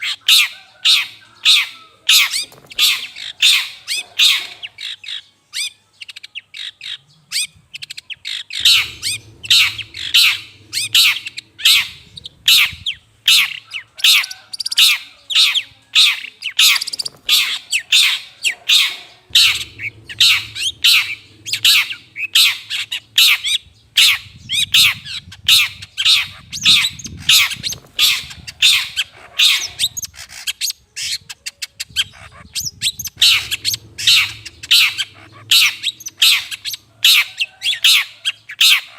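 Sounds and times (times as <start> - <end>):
shrike harsh scolding calls: 0.4 - 5.0, 8.3 - 30.4, 32.1 - 38.9.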